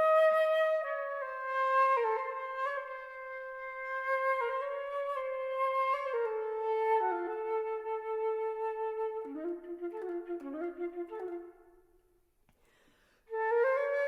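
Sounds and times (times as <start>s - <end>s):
solo flute melody: 0.0s - 12.2s, 13.3s - 14.0s.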